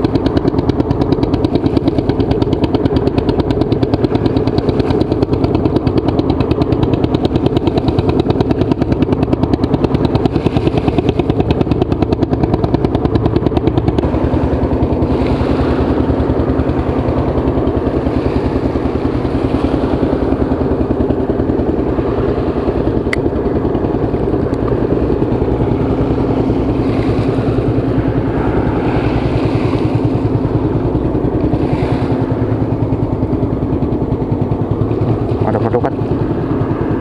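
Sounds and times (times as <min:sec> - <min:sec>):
engine running loudly: 0:00.0 - 0:37.0.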